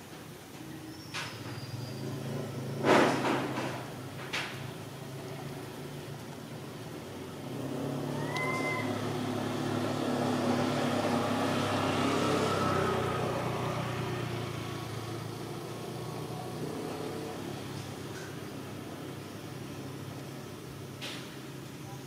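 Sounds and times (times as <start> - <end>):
vehicle engine passing: 1.8 - 21.7.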